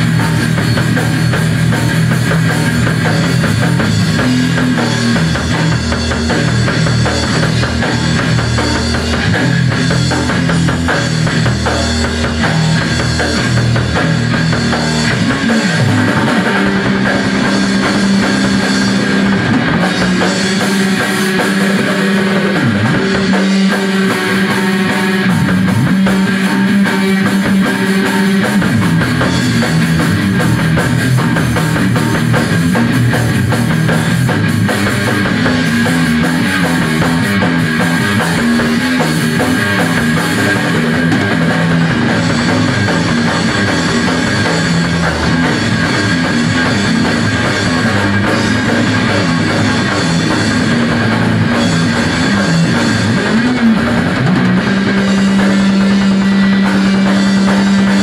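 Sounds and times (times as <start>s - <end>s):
drum kit: 0.0s - 58.0s
electric guitar low notes: 0.0s - 58.0s.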